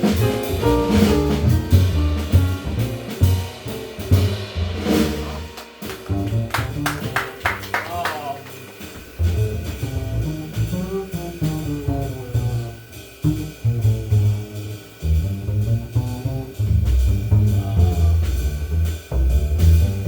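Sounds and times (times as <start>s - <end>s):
jazz band playing: 0.0s - 20.0s.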